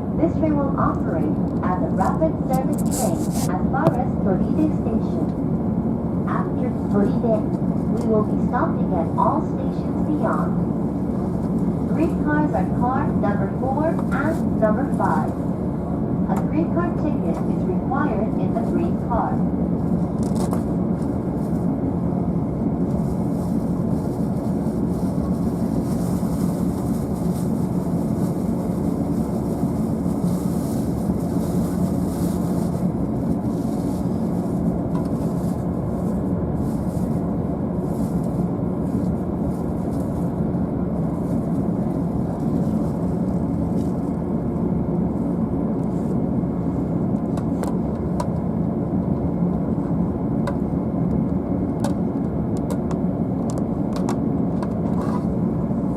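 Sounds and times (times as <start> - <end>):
train equipment hum: 0.0 - 55.9.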